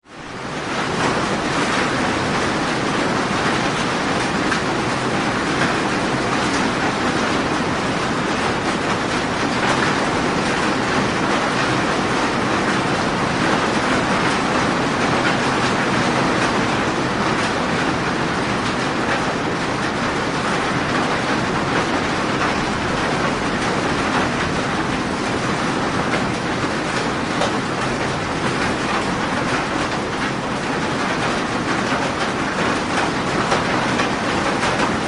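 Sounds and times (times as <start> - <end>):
rain falling: 0.1 - 35.0.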